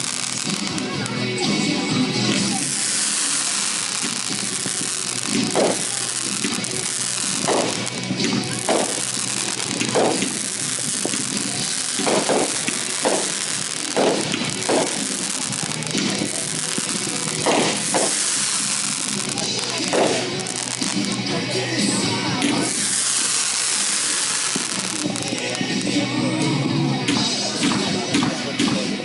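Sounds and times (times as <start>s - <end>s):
fireworks pops: 0.0s - 1.2s, 2.3s - 26.0s, 27.1s - 29.0s
fireworks hissing spray: 0.0s - 28.6s.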